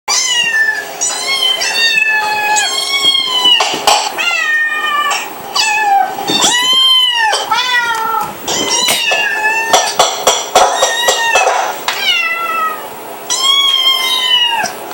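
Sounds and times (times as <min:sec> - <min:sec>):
cat meowing: 0:00.1 - 0:14.8.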